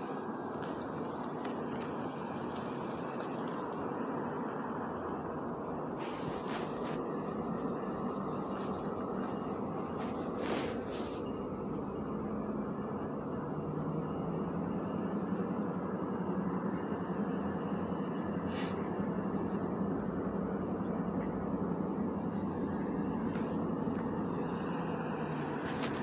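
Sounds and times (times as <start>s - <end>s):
distant engines droning: 0.0s - 26.0s
low hum: 0.0s - 26.0s.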